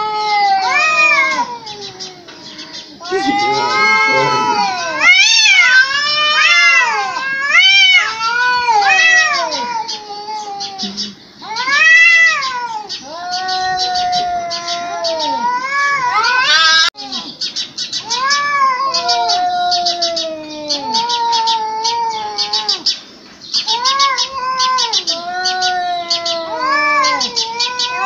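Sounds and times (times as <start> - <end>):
cats yowling: 0.0 - 17.4, 18.0 - 28.0.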